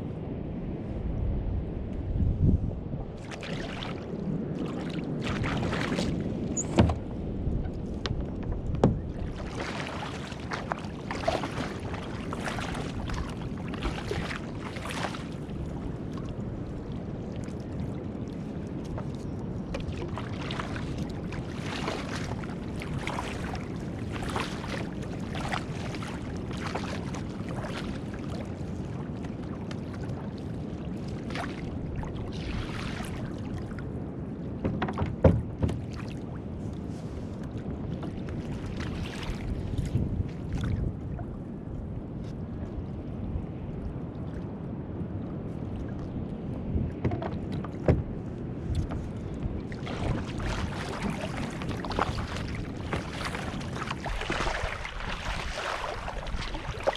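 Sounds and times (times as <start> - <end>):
rush of wind and water: 0.0 - 56.9
water splashing around kayak: 0.9 - 56.9.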